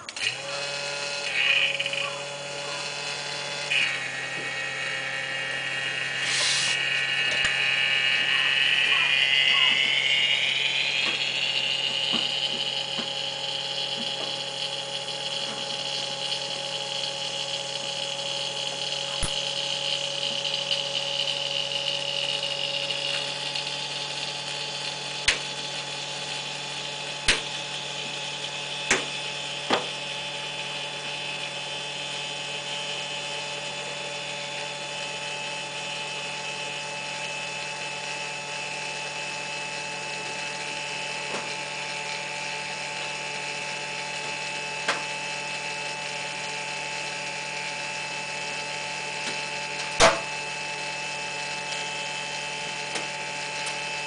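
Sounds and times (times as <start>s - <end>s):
machine hum with tones: 0.0s - 54.0s.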